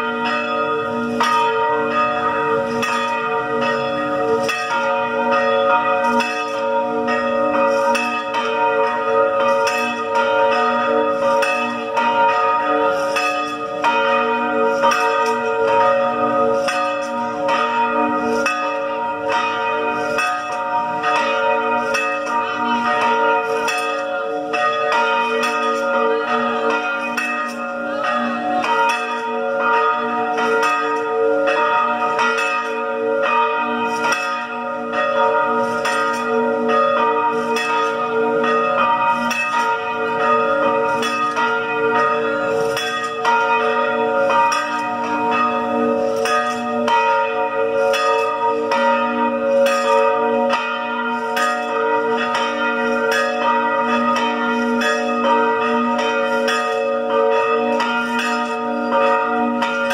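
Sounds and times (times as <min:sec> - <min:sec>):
church bells pealing: 0:00.0 - 0:59.9.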